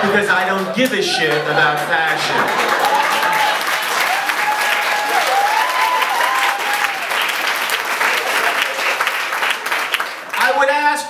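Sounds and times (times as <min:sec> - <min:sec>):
crowd cheering: 0:00.0 - 0:10.7
audience applauding: 0:00.0 - 0:10.8.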